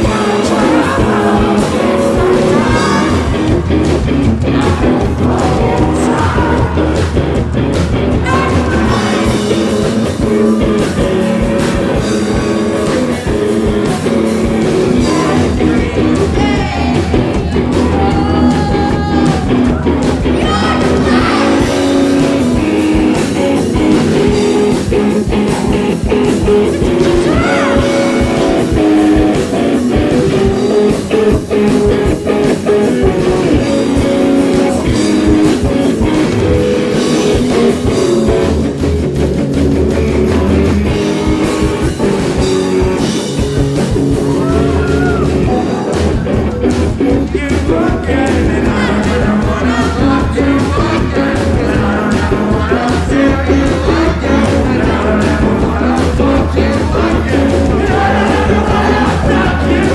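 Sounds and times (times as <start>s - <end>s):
person singing: 0.0s - 7.4s, 8.1s - 38.8s, 44.0s - 59.9s
drum kit: 0.0s - 59.9s
electric guitars: 0.0s - 59.9s.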